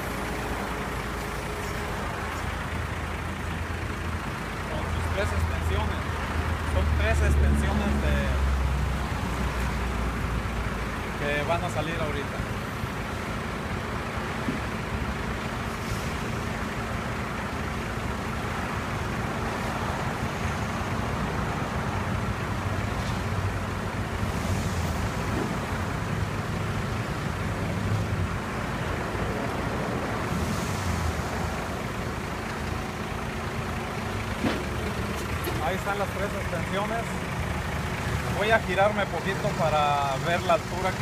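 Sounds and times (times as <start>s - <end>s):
truck engine running under load: 0.0s - 41.0s.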